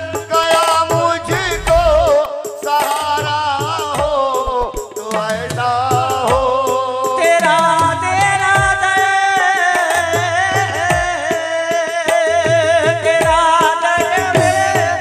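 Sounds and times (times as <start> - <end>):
men singing: 0.0 - 15.0.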